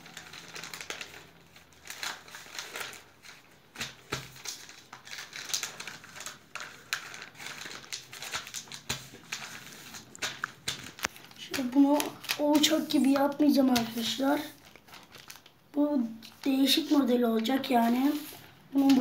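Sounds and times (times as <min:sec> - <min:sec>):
newspaper rustling and crinkling: 0:00.0 - 0:19.0.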